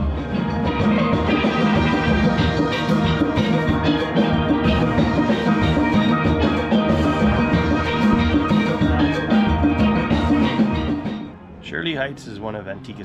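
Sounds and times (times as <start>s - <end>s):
steel band playing: 0.0s - 11.3s.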